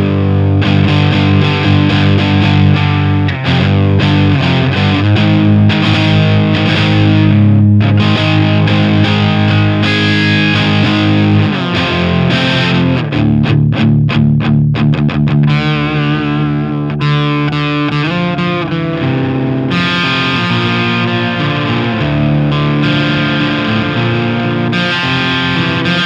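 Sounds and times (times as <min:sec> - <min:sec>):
clean electric guitar chords: 0:00.0 - 0:26.0
quick guitar strums: 0:00.0 - 0:26.0.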